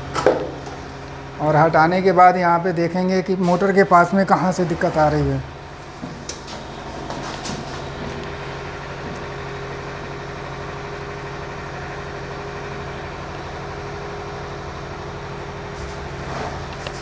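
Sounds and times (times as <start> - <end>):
washing machine droning: 0.0 - 17.0.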